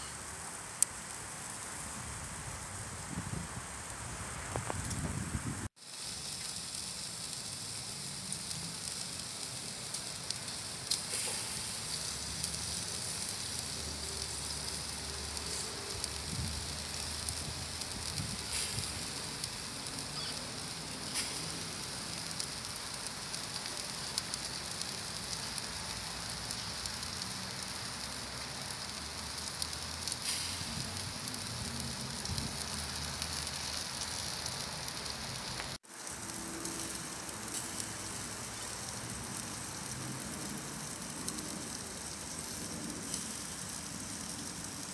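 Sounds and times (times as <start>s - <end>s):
steak sizzling on a grill: 0.0s - 44.9s.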